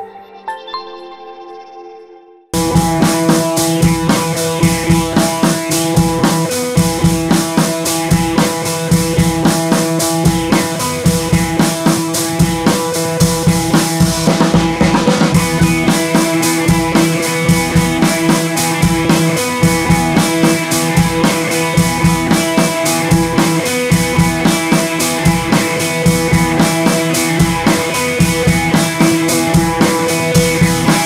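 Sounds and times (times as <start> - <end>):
music with steady drum beat: 2.6 - 31.0.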